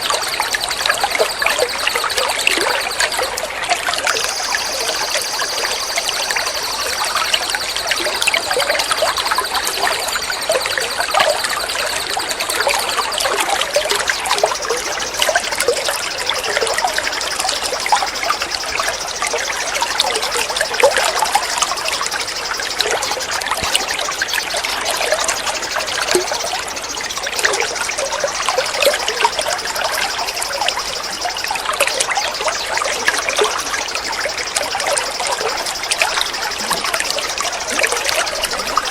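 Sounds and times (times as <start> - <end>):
shallow water babbling: 0.0 - 38.9.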